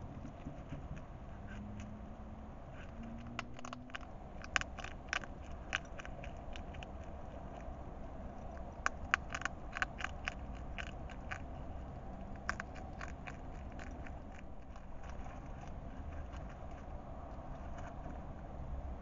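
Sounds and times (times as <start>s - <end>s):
hedgehog crunching food: 0.0s - 18.4s.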